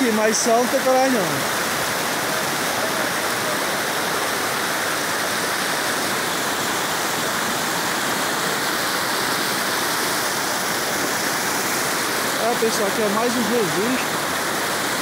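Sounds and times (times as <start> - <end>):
water pouring over dam spillway: 0.0 - 15.0.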